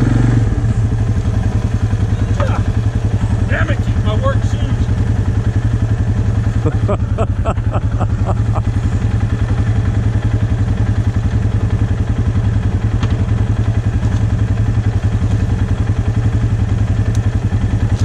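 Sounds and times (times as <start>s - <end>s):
atv engine idling: 0.0s - 18.0s.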